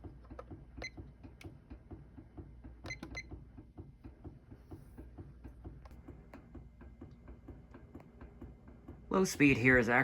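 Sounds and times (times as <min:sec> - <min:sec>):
ceiling fan motor hum: 0:00.0 - 0:10.0.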